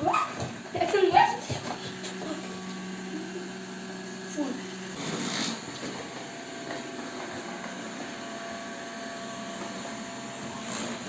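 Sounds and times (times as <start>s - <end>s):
robot vacuum whirring: 0.2s - 11.0s.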